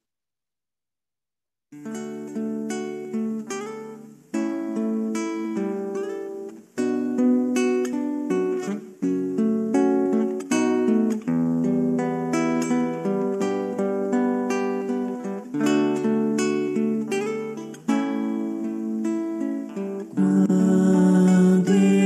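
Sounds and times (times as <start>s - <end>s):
strummed guitar chords: 1.8s - 22.0s.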